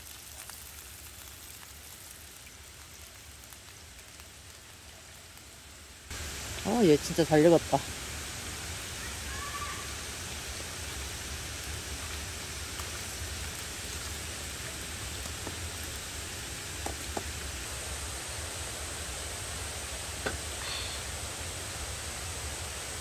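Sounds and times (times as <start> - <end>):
rain hissing: 0.0 - 23.0.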